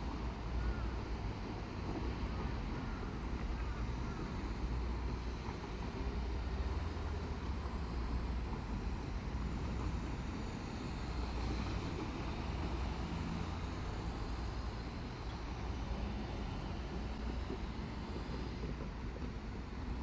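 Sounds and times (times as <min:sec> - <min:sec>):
diesel railcar rumbling: 0:00.0 - 0:20.0.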